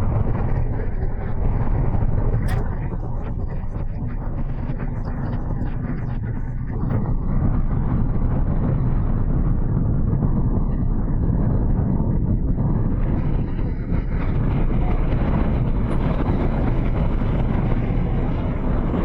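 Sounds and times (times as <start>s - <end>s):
deep rumble of collapsing ice: 0.0s - 19.0s.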